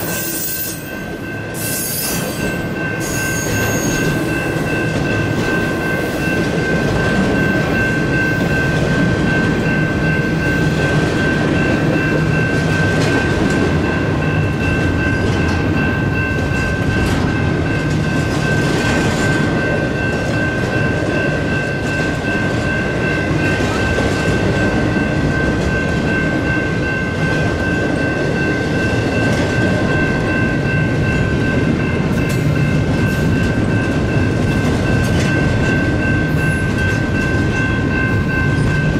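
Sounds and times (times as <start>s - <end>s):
electronic crossing bell: 0.0s - 38.9s
freight train rumbling past: 0.0s - 38.9s
mechanical crossing bell: 0.0s - 38.9s.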